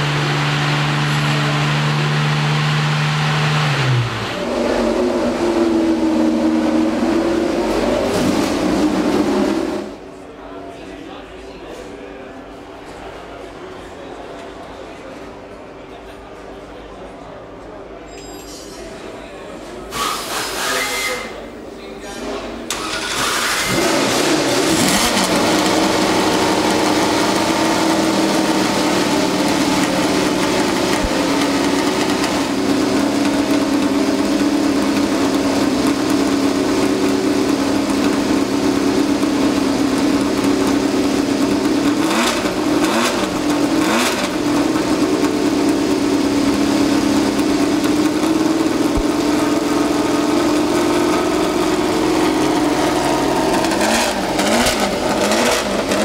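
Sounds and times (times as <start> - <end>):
racing car engine idling: 0.0 - 10.3, 21.3 - 56.0.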